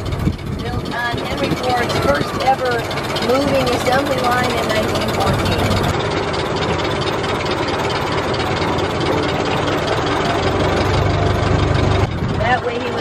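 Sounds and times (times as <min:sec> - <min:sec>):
old car engine running: 0:00.0 - 0:13.0.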